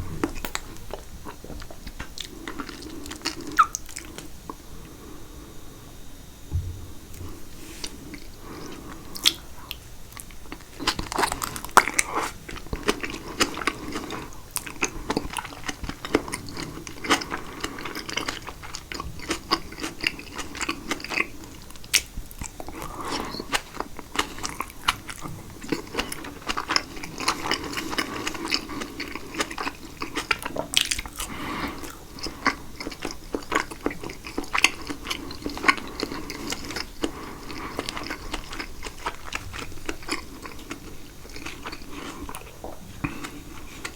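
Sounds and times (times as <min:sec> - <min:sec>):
chewing salad: 0:00.0 - 0:04.3, 0:07.2 - 0:43.9.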